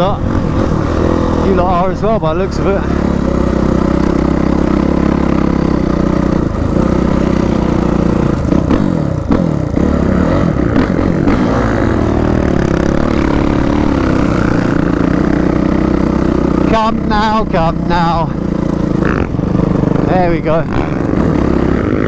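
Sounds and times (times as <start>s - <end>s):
dirt bike engine running hard: 0.0s - 22.0s.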